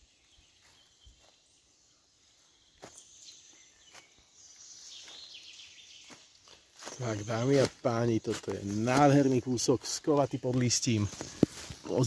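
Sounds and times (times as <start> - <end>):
faint high-pitched insect or bird sound: 0.0 - 12.0.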